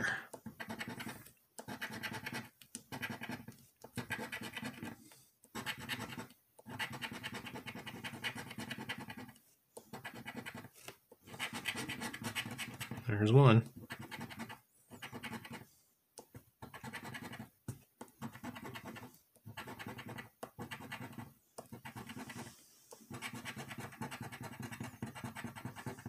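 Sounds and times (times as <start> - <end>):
coin scratching lottery ticket: 0.5 - 5.0, 5.6 - 10.7, 11.3 - 13.1, 13.8 - 15.6, 16.6 - 17.5, 18.2 - 22.4, 23.1 - 26.0.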